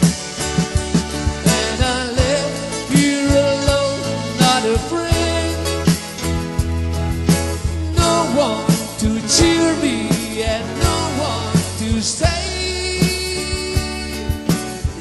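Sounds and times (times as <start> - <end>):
drum kit beat: 0.0 - 15.0
man singing: 1.2 - 6.2, 7.8 - 15.0.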